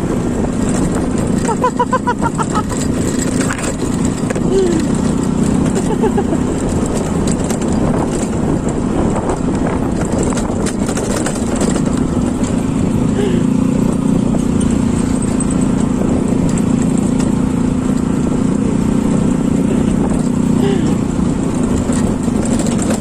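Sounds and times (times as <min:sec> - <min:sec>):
scooter engine running: 0:00.0 - 0:23.0
knocks and rattles from bumps: 0:00.4 - 0:13.2, 0:13.8 - 0:18.2, 0:21.5 - 0:23.0.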